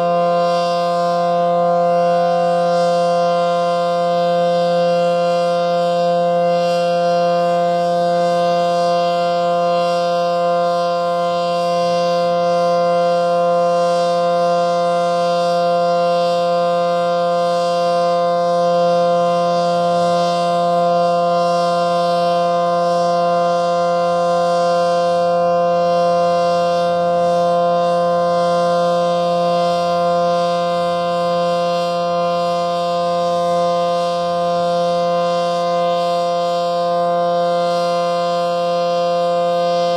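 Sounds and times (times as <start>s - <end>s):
siren steady dual-tone signal: 0.0s - 39.9s.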